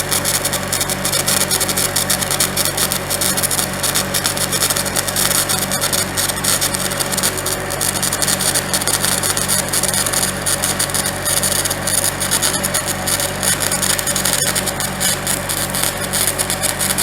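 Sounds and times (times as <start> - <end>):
welding arc crackle and hiss: 0.0 - 17.0
welding machine hum: 0.0 - 17.0.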